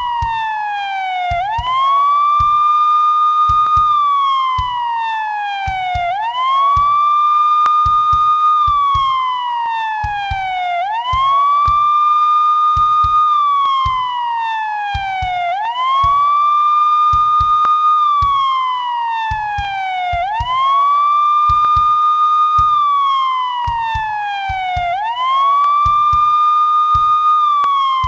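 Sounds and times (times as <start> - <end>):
police siren wailing: 0.0 - 28.0.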